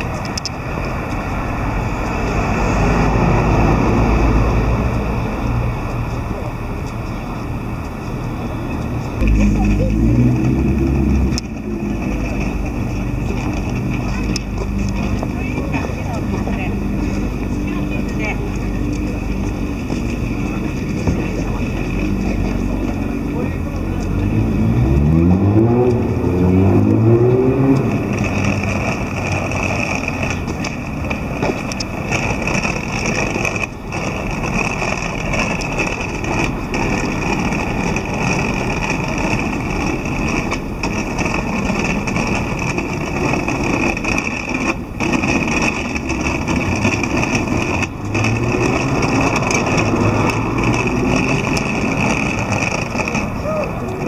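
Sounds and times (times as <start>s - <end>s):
hum of passing cars: 0.0s - 54.0s
vehicle engine accelerating: 0.0s - 54.0s.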